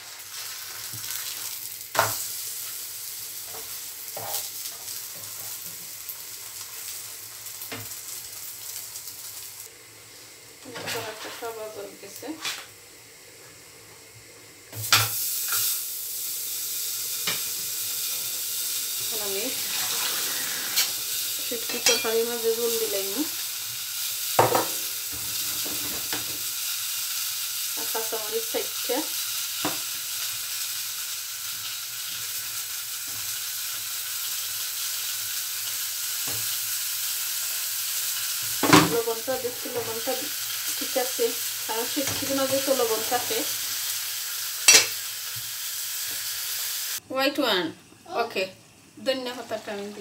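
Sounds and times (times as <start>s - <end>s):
paratha sizzling in frying pan: 0.0s - 50.0s.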